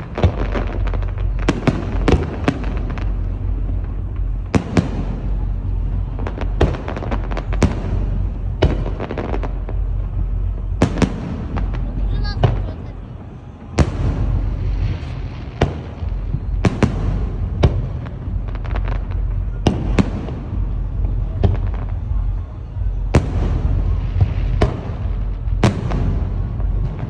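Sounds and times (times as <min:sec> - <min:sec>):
fireworks booming: 0:00.0 - 0:27.0
low rumble: 0:00.0 - 0:27.0.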